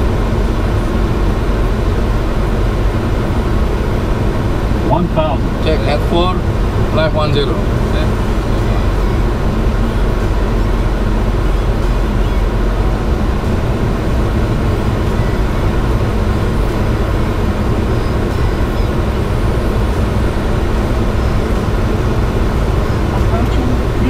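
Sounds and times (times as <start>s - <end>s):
airflow rushing: 0.0s - 24.0s
jet engine noise: 0.0s - 24.0s.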